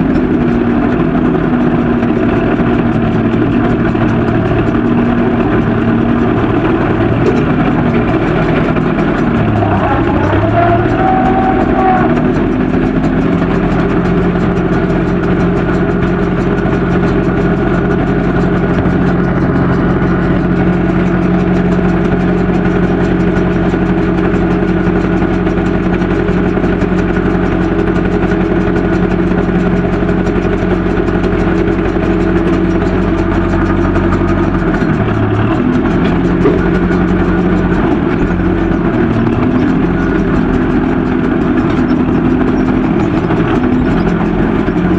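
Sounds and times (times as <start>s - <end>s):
tractor diesel engine running hard: 0.0s - 44.9s.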